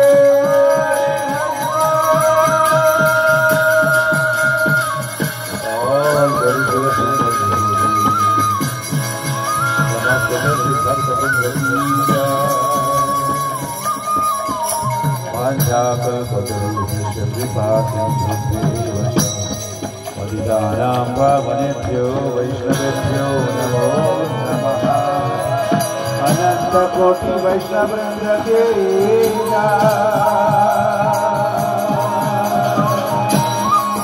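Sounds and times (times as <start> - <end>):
barrel drum: 0.0 - 34.0
hand cymbals jingling: 0.0 - 34.0.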